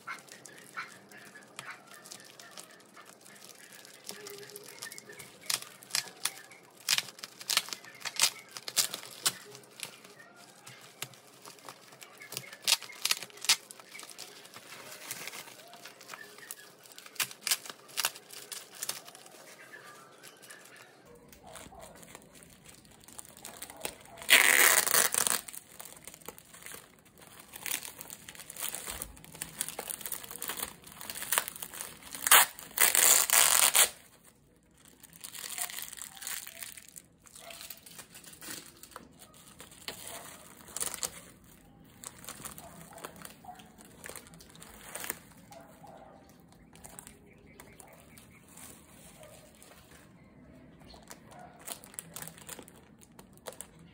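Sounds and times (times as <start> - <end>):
plastic wrapping crinkling: 0.0 - 53.9.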